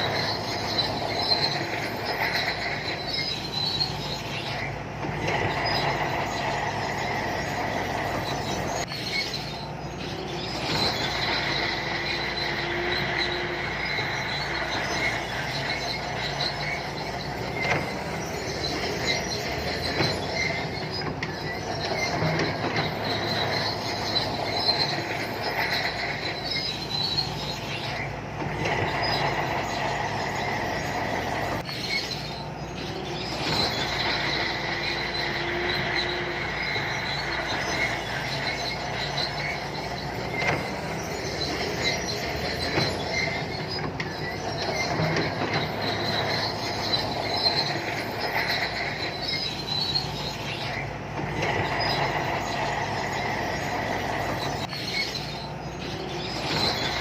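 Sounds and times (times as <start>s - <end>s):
bulldozer diesel engine running: 0.0s - 57.0s
steel tracks squealing and clanking: 0.0s - 57.0s.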